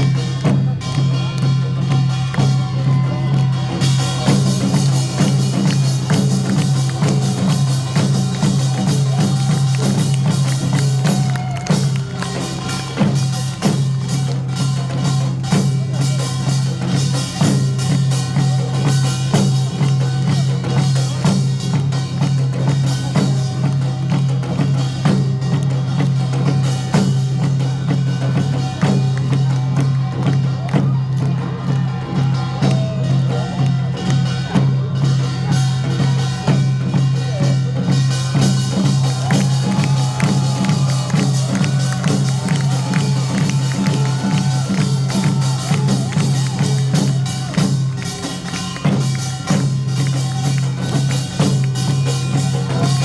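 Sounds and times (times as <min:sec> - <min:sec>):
loud live drum and percussion music: 0:00.0 - 0:53.0.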